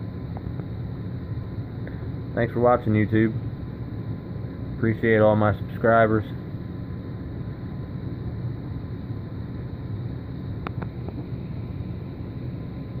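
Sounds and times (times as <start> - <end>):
equipment hum and hiss: 0.0 - 13.0.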